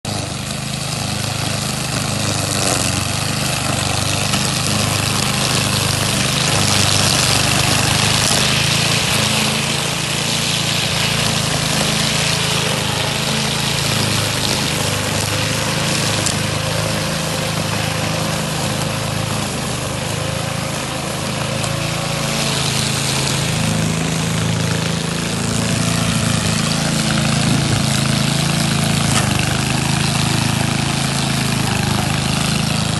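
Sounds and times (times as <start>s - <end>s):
lawn mower engine running: 0.0s - 32.9s.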